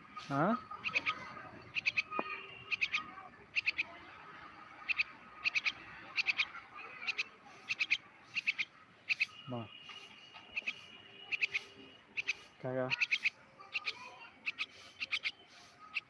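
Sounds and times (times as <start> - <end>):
high-pitched chirps: 0.2 - 3.9, 4.8 - 16.0.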